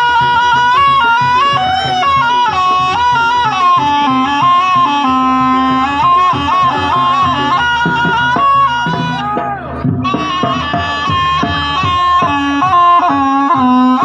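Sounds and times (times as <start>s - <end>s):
drums and gamelan beat: 0.0s - 14.0s
shrill shawm melody: 0.0s - 14.0s.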